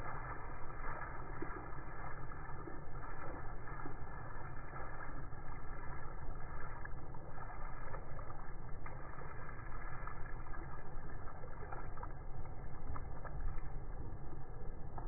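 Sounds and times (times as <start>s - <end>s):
low rumble: 0.0s - 15.0s
water spurting onto wet concrete: 0.0s - 15.0s.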